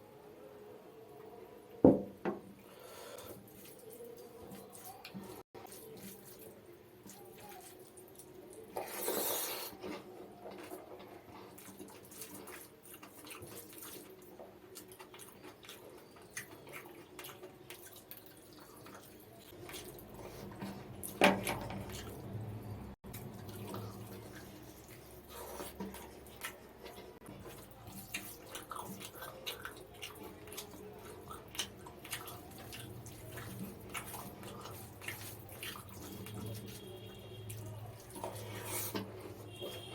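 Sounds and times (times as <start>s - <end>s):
wet eating sounds: 2.6s - 39.9s.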